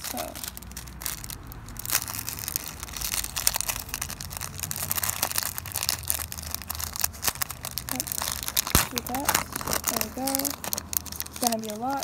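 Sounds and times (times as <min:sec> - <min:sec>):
plastic packet crinkling: 0:00.0 - 0:12.0
sequins clicking and rustling: 0:00.0 - 0:12.0.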